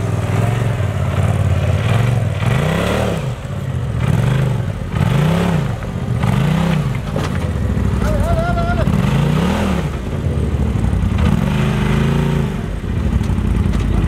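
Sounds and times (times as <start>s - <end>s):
engine revving under load: 0.0s - 14.0s.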